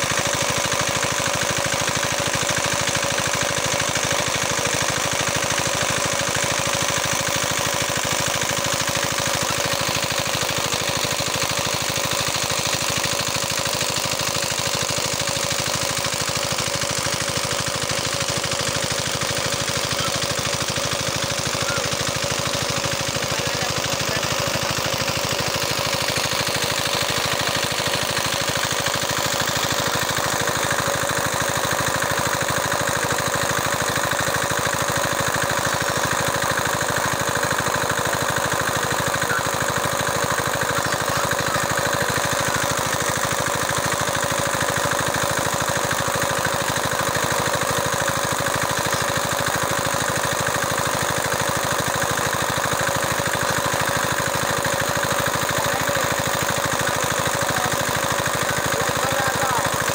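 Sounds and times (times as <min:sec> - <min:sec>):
small engine running steadily: 0:00.0 - 0:59.9.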